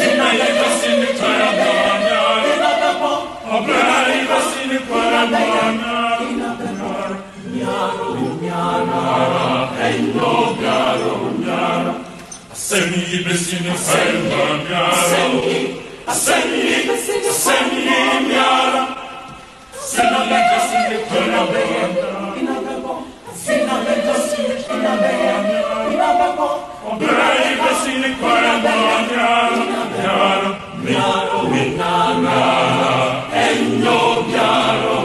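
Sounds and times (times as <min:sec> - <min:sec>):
voices singing a chant-like song: 0:00.0 - 0:35.0.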